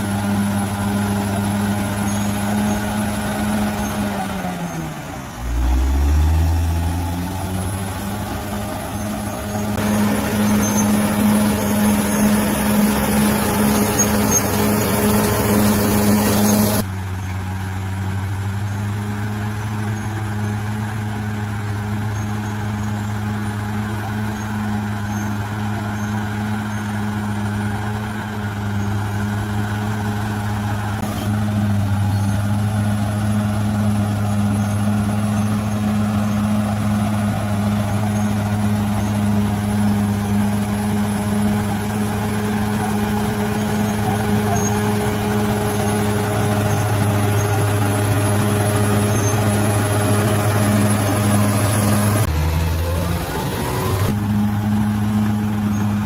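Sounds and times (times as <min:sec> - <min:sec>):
bulldozer diesel engine drone: 0:00.0 - 0:56.0
rough noisy layer: 0:00.0 - 0:56.0.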